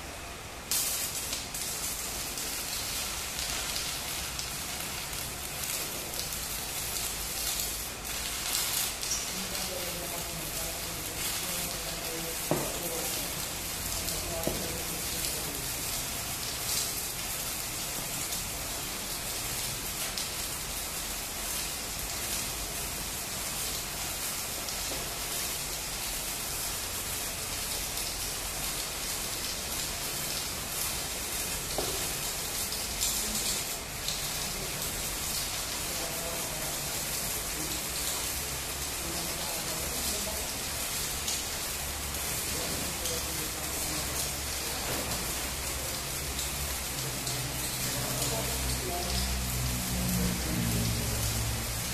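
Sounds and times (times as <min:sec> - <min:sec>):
arc welding crackling sizzle: 0:00.0 - 0:51.9.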